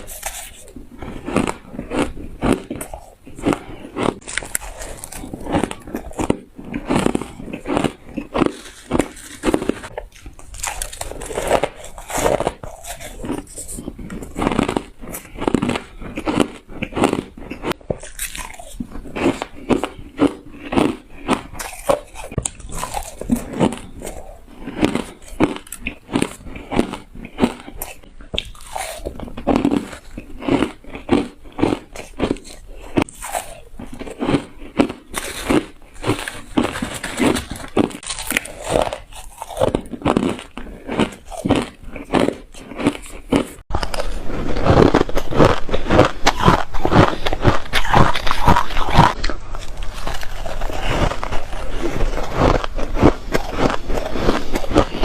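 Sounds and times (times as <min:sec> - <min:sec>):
person chewing shaved ice: 0:00.0 - 0:55.0.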